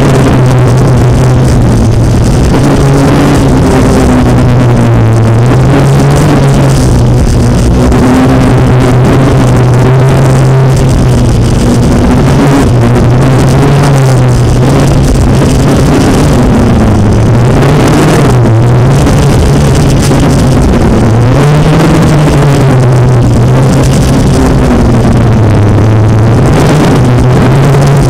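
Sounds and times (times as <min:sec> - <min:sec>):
drone motors buzzing: 0:00.0 - 0:28.0.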